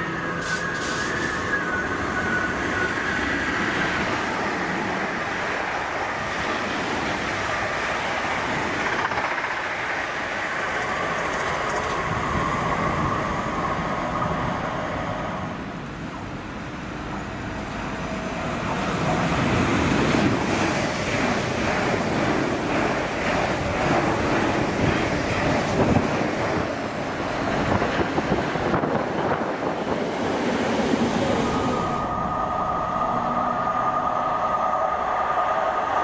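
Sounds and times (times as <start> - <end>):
electric train rushing past: 0.0 - 36.0.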